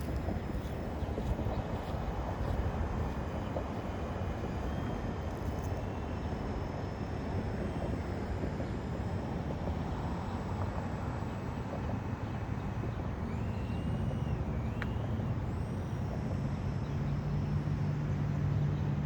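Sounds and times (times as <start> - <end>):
steady low rumble: 0.0 - 19.0
small electric motors whining: 2.7 - 18.9.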